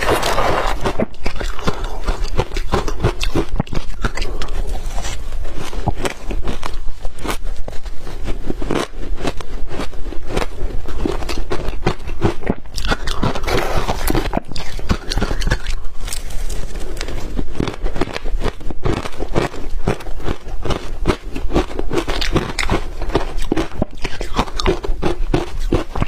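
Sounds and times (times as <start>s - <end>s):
ice being crunched and chewed: 0.0s - 26.0s.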